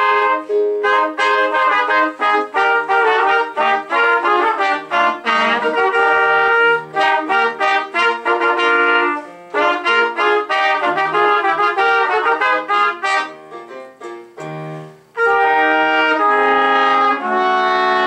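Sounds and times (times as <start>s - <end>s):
trumpets playing in harmony: 0.0s - 13.5s, 15.2s - 18.0s.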